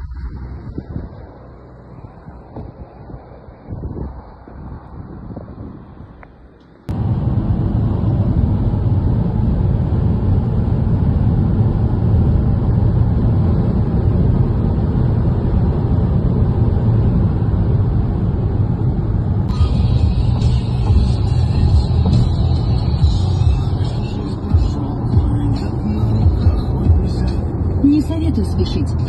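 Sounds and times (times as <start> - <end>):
car road noise at highway speed: 0.0 - 29.0
faint wind: 0.0 - 29.0.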